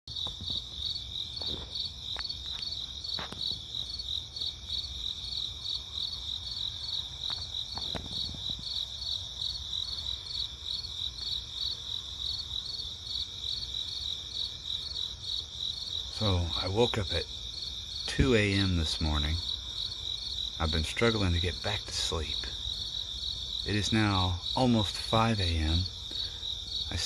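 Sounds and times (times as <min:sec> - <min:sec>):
crickets chirping: 0:00.1 - 0:27.0.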